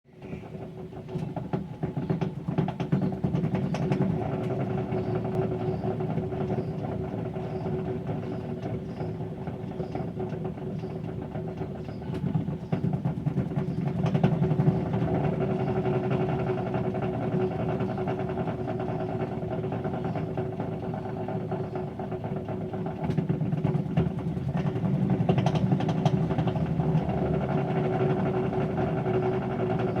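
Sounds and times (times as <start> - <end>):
washing machine spin hum and whine: 0.1 - 30.0.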